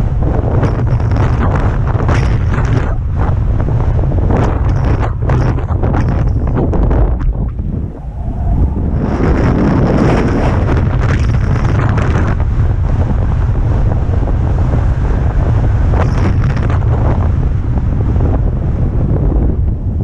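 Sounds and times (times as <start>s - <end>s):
hissing wind rushes: 0.0s - 20.0s
wind buffeting microphone: 0.0s - 20.0s.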